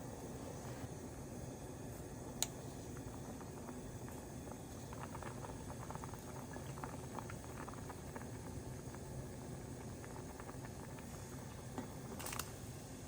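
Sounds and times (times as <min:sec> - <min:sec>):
food bubbling on stove: 0:00.0 - 0:13.0.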